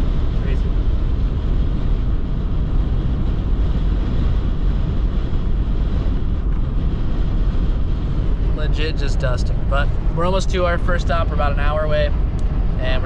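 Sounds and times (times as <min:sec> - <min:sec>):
road and wind noise inside car: 0:00.0 - 0:13.0.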